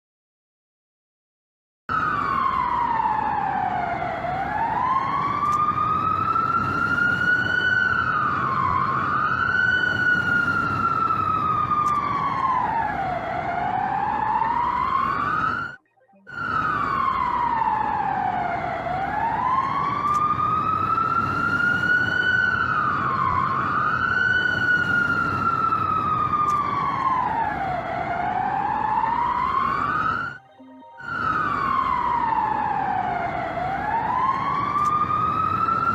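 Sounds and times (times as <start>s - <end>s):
emergency siren wailing: 1.9s - 35.9s.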